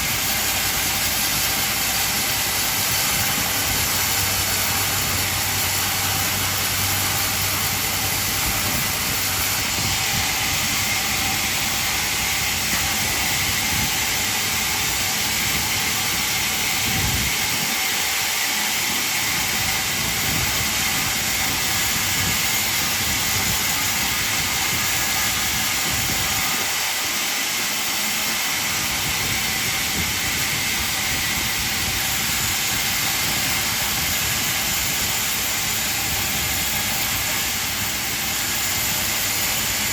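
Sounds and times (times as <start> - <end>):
band sawmill hissing: 0.0 - 39.9.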